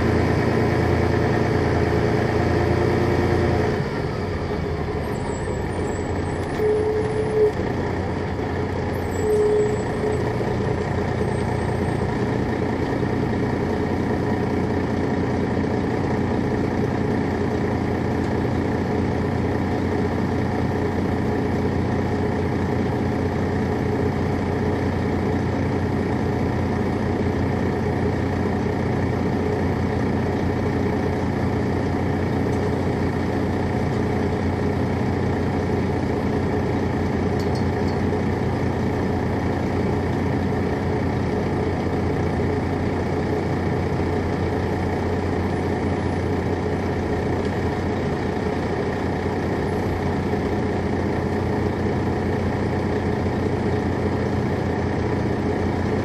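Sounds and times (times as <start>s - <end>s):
diesel coach engine running: 0.0s - 56.0s.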